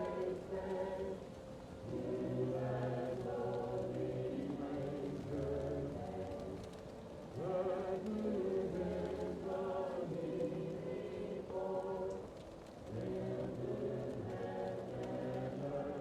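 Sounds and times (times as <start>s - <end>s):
fireplace crackle: 0.0s - 16.0s
muffled choir singing: 0.0s - 16.0s.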